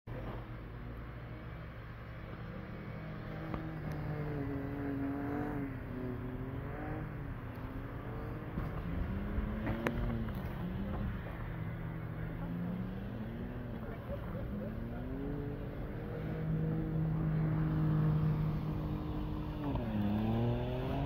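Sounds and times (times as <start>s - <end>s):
suv engine revving: 2.5s - 11.6s, 12.2s - 21.0s.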